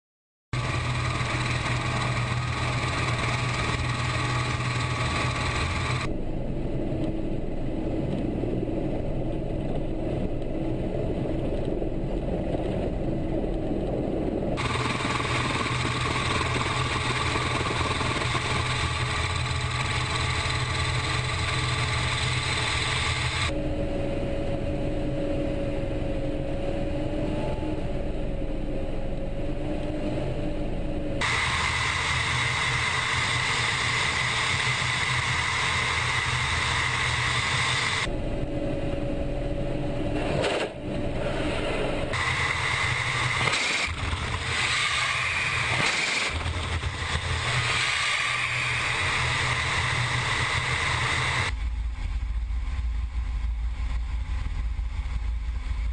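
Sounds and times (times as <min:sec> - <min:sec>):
helicopter engines and rotor running: 0:00.6 - 0:55.9
turbine whine: 0:00.6 - 0:55.9.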